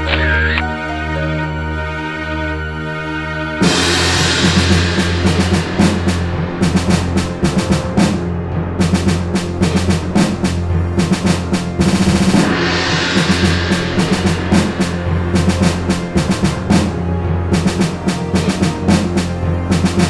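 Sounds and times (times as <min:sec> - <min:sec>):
dramatic electronic film score: 0:00.0 - 0:20.0
drum roll: 0:03.6 - 0:20.0.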